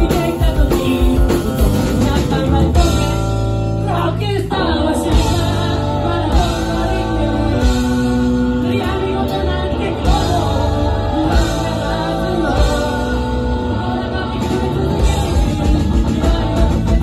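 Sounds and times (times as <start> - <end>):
drum kit: 0.0 - 17.0
electric guitar: 0.0 - 17.0
man singing: 0.0 - 17.0.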